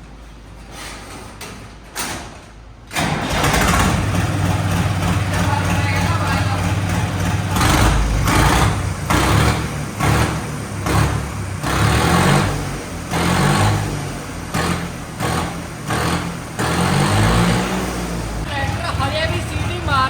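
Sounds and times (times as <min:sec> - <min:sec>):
diesel tractor engine revving: 0:02.9 - 0:20.0.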